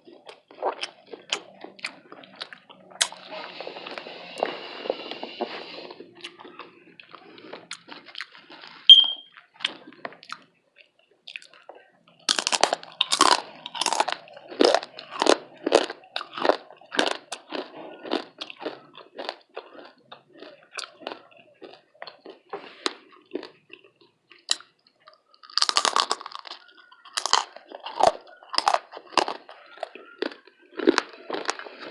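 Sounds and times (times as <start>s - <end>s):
crunchy chewing of bacon: 0.0s - 31.9s.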